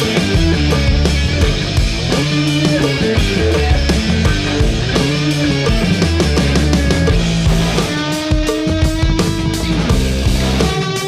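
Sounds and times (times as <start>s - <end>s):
loud rock music with electric guitar: 0.0s - 11.0s.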